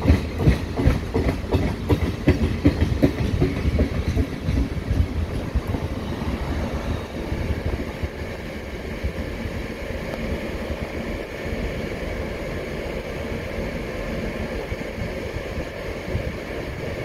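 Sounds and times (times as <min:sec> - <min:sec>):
wind buffeting microphone: 0:00.0 - 0:11.0, 0:13.2 - 0:17.0
train rumbling away: 0:00.0 - 0:17.0.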